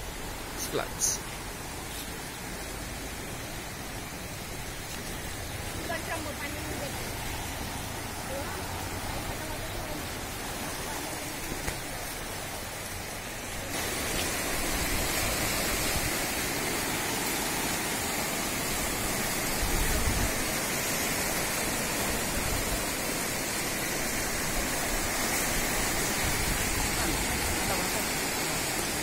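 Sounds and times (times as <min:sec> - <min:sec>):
floodwater rushing down a stream: 0:00.0 - 0:29.0.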